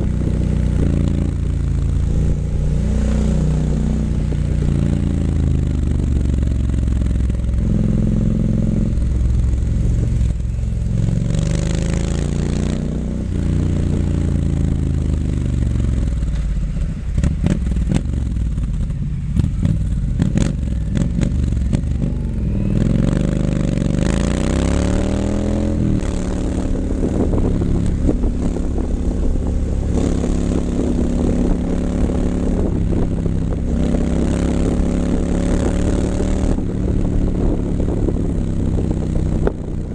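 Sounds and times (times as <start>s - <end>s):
exhaust crackling: 0.0s - 39.9s
motorcycle engine revving: 0.0s - 39.9s.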